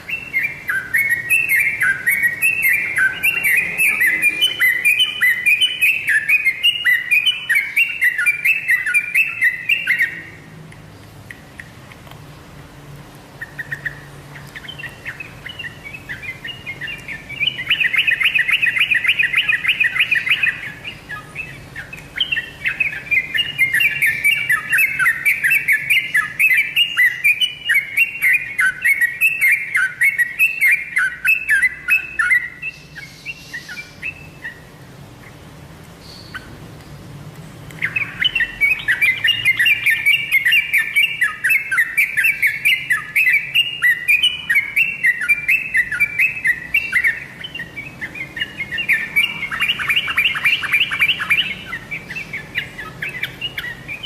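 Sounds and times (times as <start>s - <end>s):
bird singing chattering notes: 0.0s - 12.1s, 13.2s - 36.7s, 37.5s - 54.0s.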